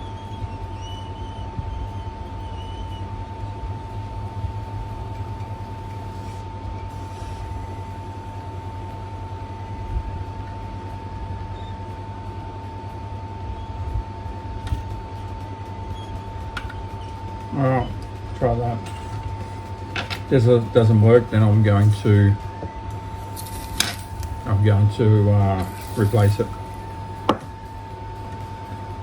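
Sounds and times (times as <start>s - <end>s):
hot air station blowing: 0.0s - 29.0s
low hum: 0.0s - 29.0s
thin whine: 0.0s - 29.0s.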